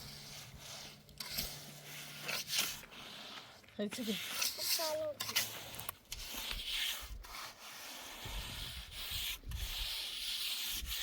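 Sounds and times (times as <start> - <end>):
hand tool rasping surface: 0.0 - 11.0.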